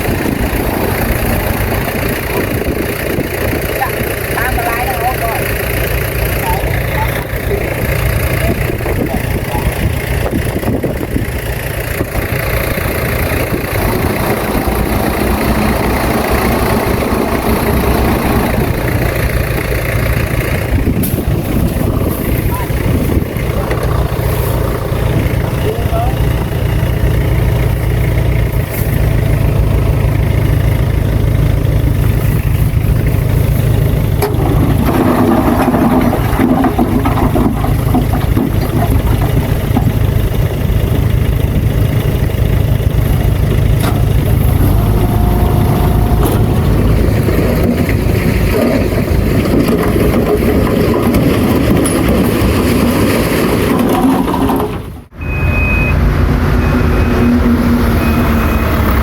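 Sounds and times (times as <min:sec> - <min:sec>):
heavy diesel machine rumbling: 0:00.0 - 0:59.0.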